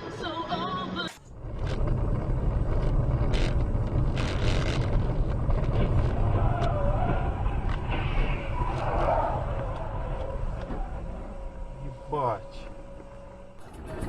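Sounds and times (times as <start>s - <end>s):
car rumble on the move: 0.1s - 14.0s.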